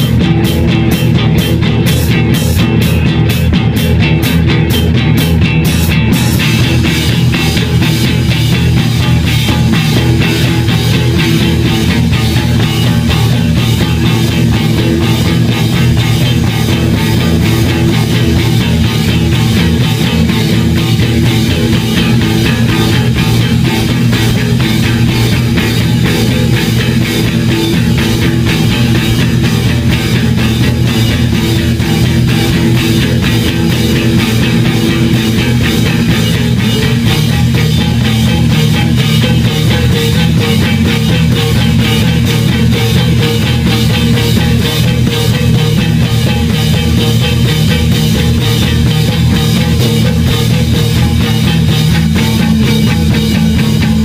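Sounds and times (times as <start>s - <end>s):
distorted electric guitars: 0.0s - 54.0s
drum kit and cymbals: 0.0s - 54.0s
electric bass: 0.0s - 54.0s.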